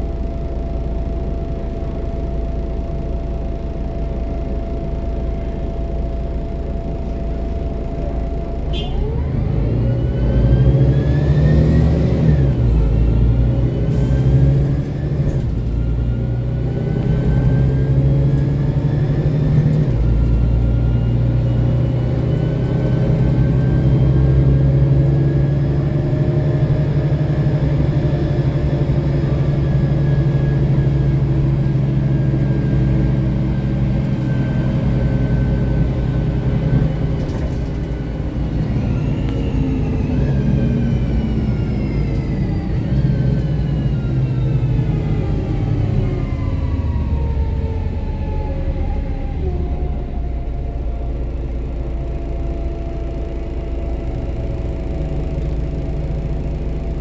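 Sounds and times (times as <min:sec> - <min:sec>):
bus diesel engine drone: 0:00.0 - 0:57.0
gearbox whine: 0:00.0 - 0:57.0.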